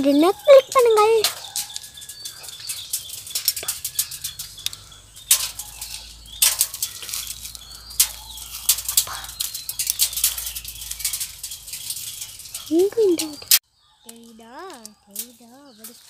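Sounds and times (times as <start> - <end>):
seed pods cracking on metal roof: 0.0 - 16.0.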